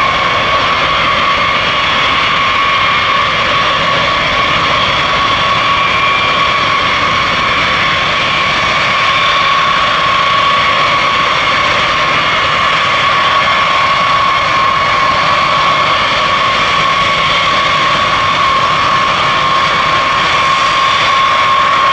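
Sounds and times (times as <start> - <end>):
jet engines taxiing whine: 0.0 - 21.9.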